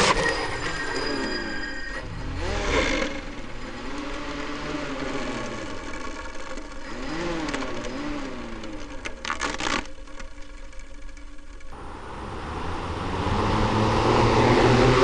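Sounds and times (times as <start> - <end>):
slowed-down model aircraft motor whine: 0.1 - 13.2.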